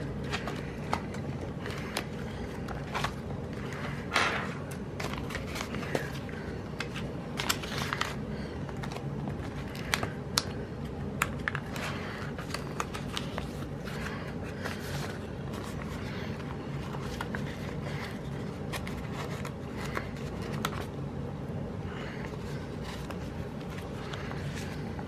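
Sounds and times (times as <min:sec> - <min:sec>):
paper crinkling: 0:00.0 - 0:21.0, 0:22.2 - 0:25.0
steady low hum: 0:00.0 - 0:25.0.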